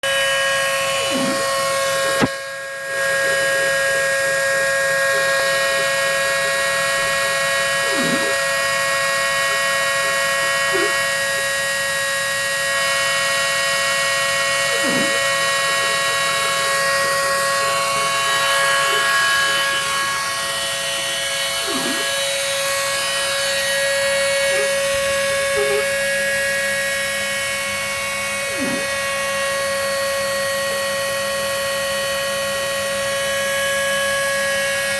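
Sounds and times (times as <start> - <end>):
machine motor whine: 0.0 - 34.9.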